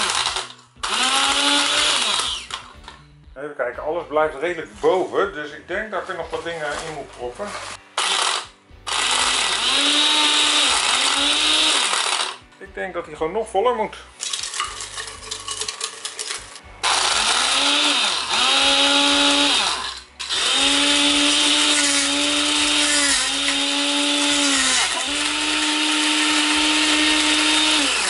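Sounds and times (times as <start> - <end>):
blender motor chopping plastic: 0.0 - 3.0, 6.7 - 12.4, 14.2 - 28.0.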